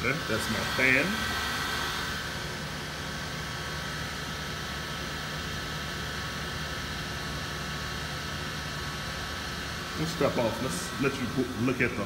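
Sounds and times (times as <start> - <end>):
blower fan humming with whine: 0.0 - 12.0.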